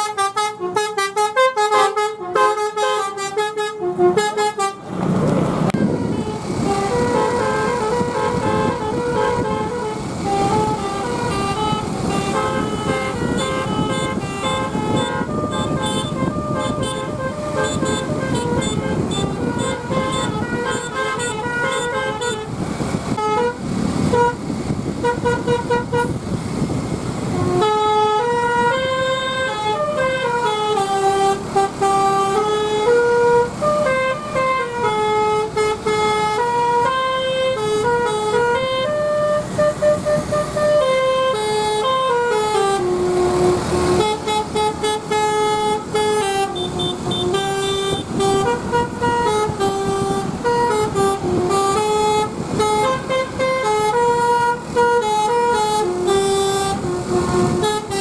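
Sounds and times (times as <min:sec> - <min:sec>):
bus engine: 0:00.0 - 0:58.0
multi-tone bus horn playing: 0:00.0 - 0:58.0
road rumble: 0:00.0 - 0:58.0.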